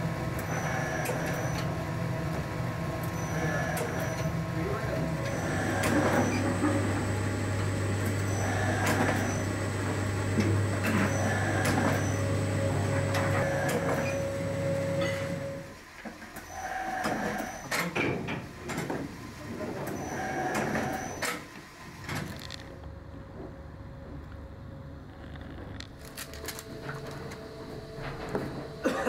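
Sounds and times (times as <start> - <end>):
factory machinery cycling: 0.0 - 29.0
low machine hum: 0.0 - 29.0.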